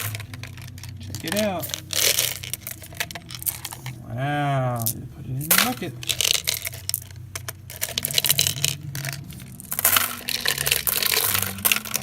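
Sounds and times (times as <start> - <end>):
candies clattering in plastic container: 0.0 - 12.0.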